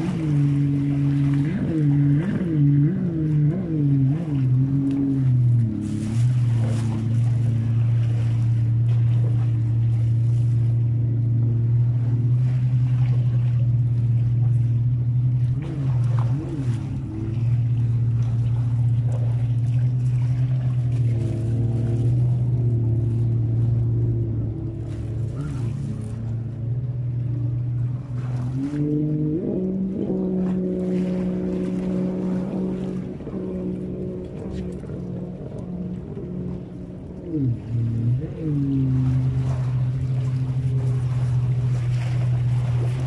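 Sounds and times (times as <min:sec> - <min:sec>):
low motor hum: 0:00.0 - 0:43.0.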